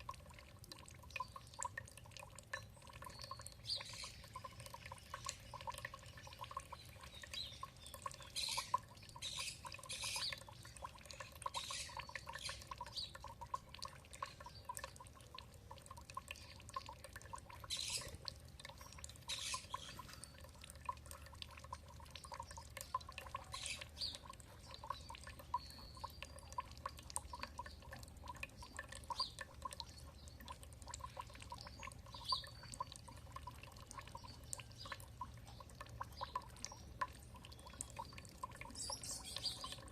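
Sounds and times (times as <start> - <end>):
water trickling and dripping: 0.0 - 39.9
songbirds chirping: 0.1 - 39.9.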